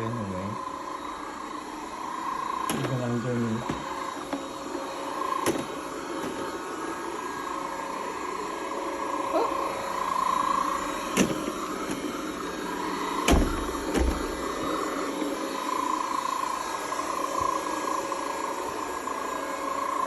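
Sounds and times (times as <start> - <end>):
robot vacuum cleaner whirring: 0.0 - 20.0.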